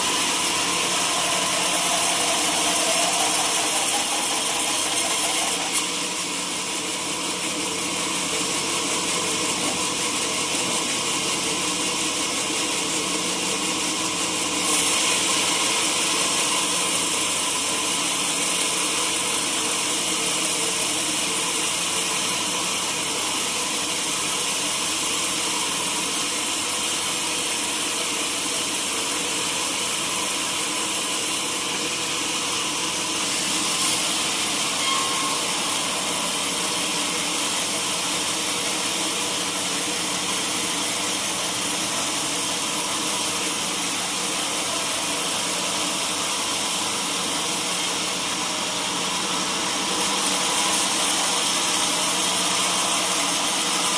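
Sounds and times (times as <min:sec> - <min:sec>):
saw cutting log: 0:00.0 - 0:48.5, 0:49.4 - 0:53.9
sawmill machine hum: 0:00.0 - 0:53.9.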